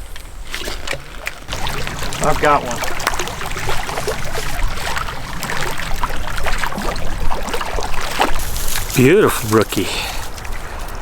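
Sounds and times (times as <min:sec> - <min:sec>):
water splashing and sloshing: 0:00.1 - 0:11.0.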